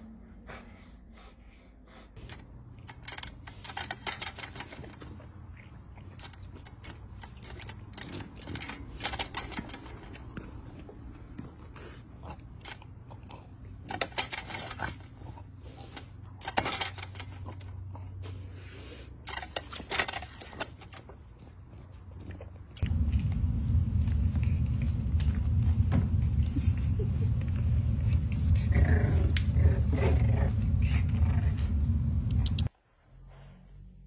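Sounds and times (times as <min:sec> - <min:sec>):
steady low hum: 0:00.0 - 0:32.7.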